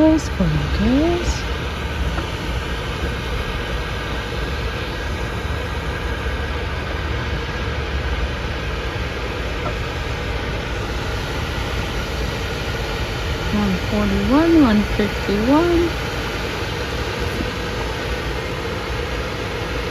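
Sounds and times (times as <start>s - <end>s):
air conditioner whooshing and humming: 0.0s - 19.9s.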